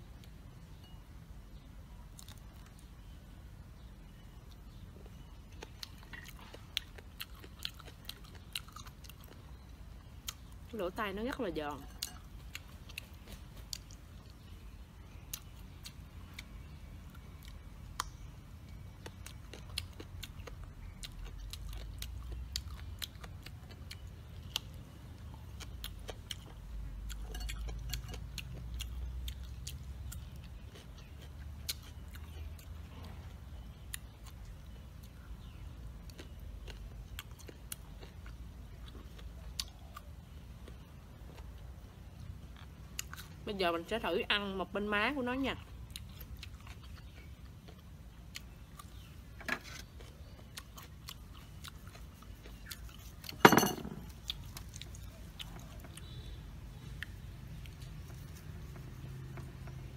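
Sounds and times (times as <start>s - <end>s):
chewing crunchy cartilage: 1.5s - 44.5s, 45.1s - 59.9s.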